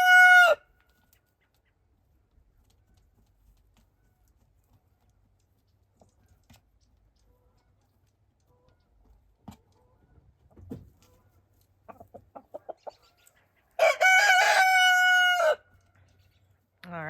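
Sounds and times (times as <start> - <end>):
chicken clucks: 1.0 - 3.2, 3.8 - 16.5.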